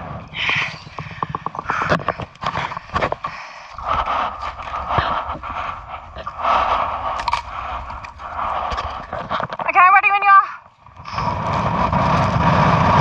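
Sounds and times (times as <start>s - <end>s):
wind gusting over microphone: 0.0s - 13.0s.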